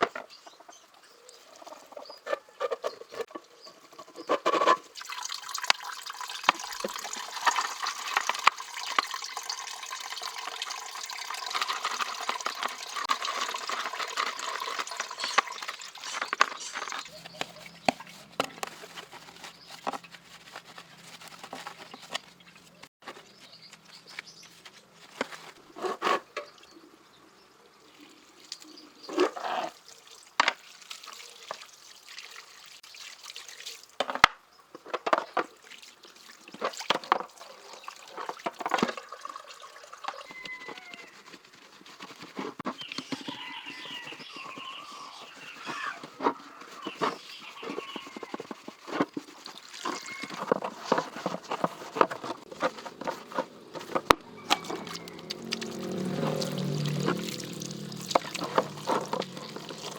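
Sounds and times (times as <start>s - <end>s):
water splashing and trickling: 0.1s - 23.4s, 27.8s - 59.9s.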